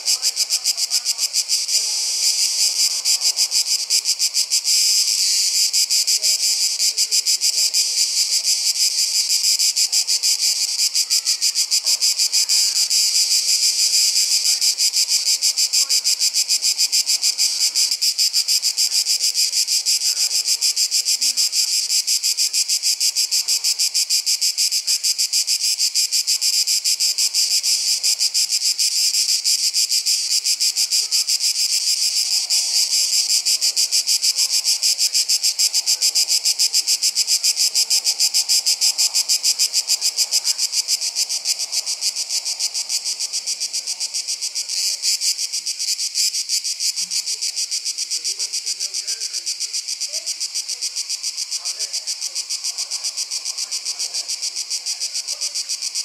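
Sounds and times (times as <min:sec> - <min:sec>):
insects shrilling: 0:00.0 - 0:56.0.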